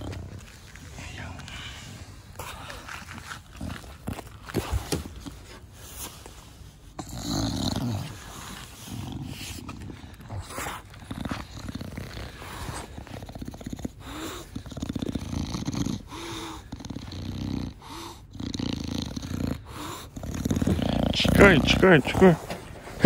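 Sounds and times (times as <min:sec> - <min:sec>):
dog snorting and snuffling: 0:00.0 - 0:23.0.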